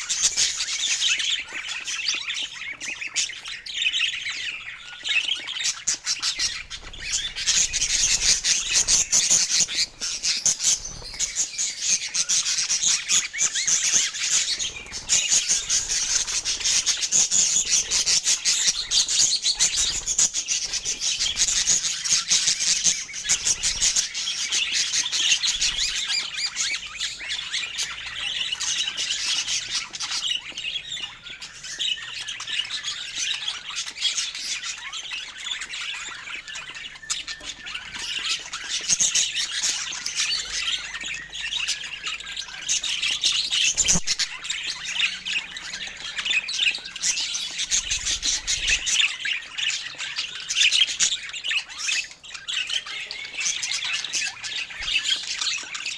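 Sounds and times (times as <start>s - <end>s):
parakeets chattering: 0.0s - 55.9s.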